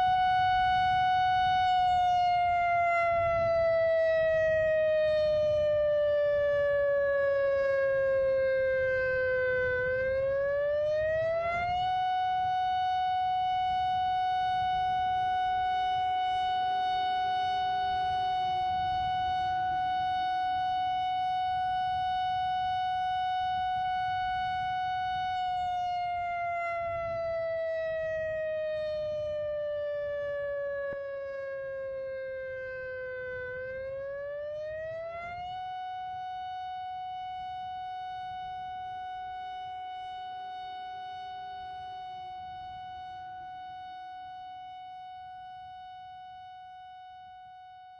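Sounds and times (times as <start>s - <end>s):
warning siren: 0.0s - 47.9s.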